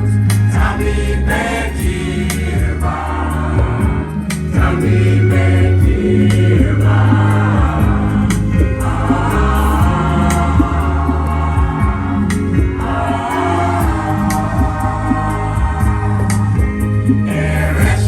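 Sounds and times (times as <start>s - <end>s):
choir singing gospel music: 0.0s - 18.0s
deep bass line: 0.0s - 18.0s
steady percussion beat: 0.0s - 18.0s.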